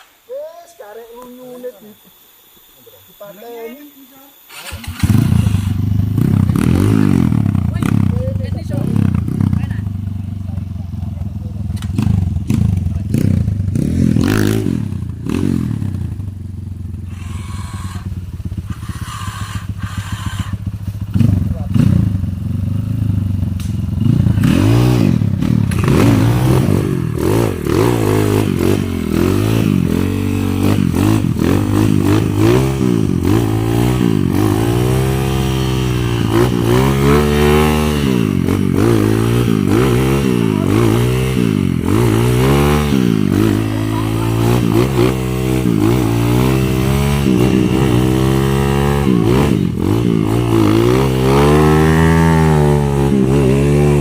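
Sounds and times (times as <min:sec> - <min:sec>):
motorcycle engines revving: 0:03.0 - 0:54.0.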